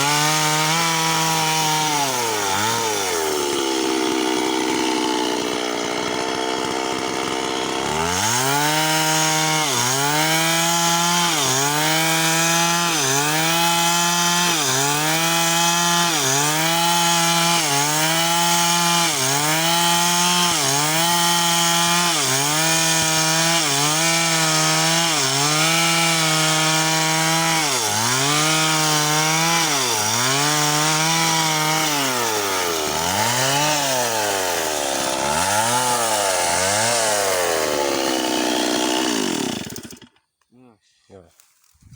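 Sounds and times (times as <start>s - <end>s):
chainsaw cutting wood: 0.0s - 40.4s.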